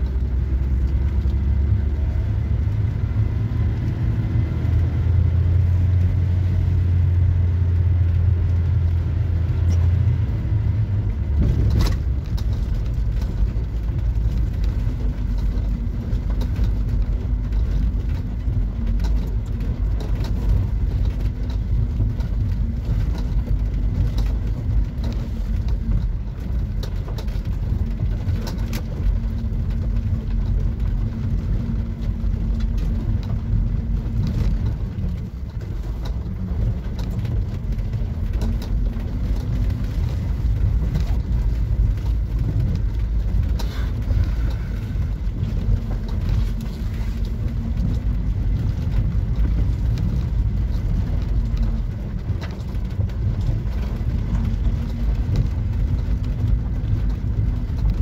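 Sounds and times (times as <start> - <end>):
van engine drone: 0.0 - 58.0.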